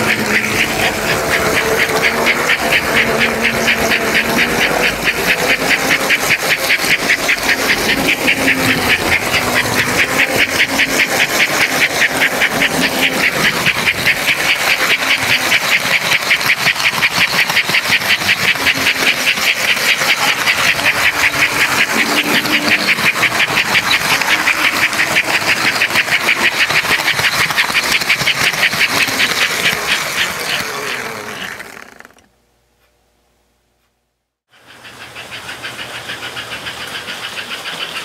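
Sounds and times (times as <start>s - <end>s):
model train clattering: 0.0s - 32.2s, 34.6s - 38.0s.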